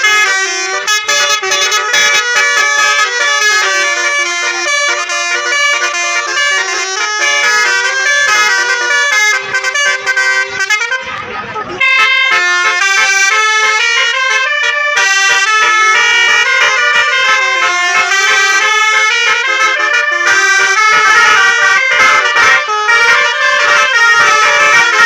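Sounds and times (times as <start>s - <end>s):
musical bus air horn tune: 0.0s - 25.0s.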